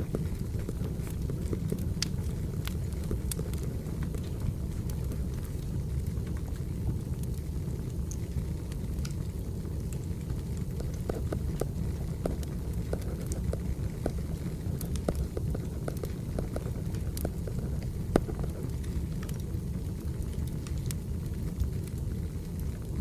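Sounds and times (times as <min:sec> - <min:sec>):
fire crackling and popping: 0:00.0 - 0:23.0
wood fire rumbling: 0:00.0 - 0:23.0.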